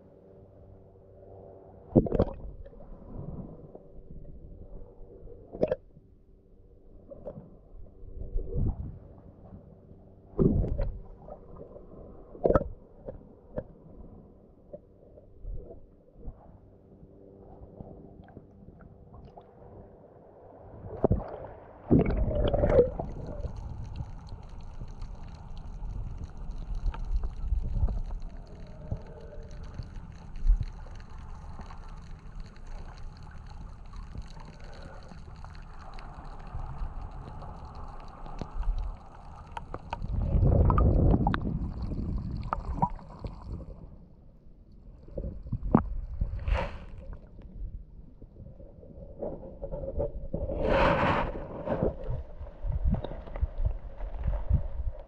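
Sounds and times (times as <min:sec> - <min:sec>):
muffled underwater sloshing: 0:06.8 - 0:55.0.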